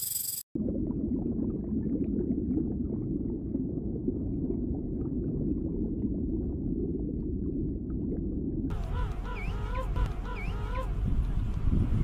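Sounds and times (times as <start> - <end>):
underwater rumble of moving water: 0.6 - 12.0.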